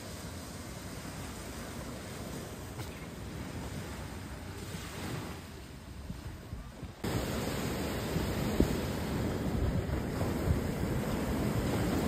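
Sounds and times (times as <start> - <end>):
ocean surf washing on shore: 0.0 - 12.0
wind buffeting microphone: 0.5 - 12.0.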